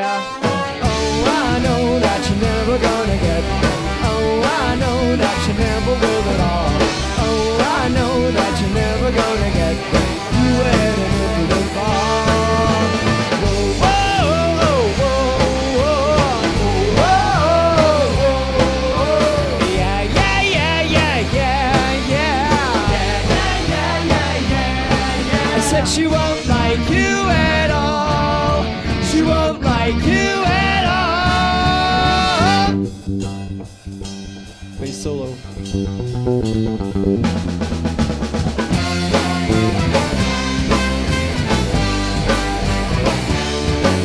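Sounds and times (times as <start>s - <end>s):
rock band with horns playing: 0.0s - 44.0s.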